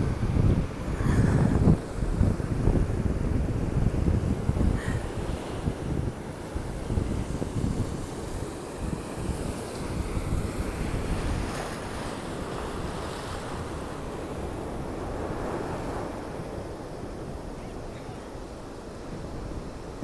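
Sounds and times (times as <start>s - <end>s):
ocean surf washing around rocks: 0.0s - 20.0s
wind buffeting microphone: 0.0s - 20.0s.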